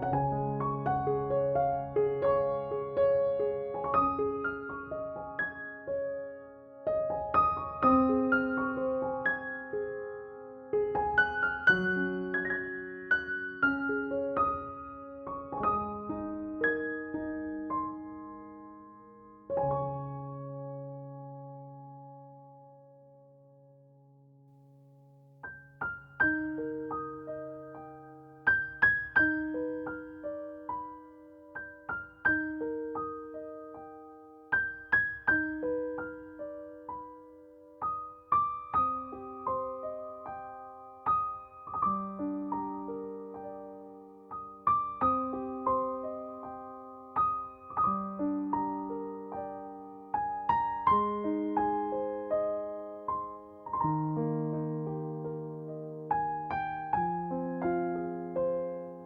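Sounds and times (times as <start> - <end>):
slow solo piano: 0.0 - 59.0.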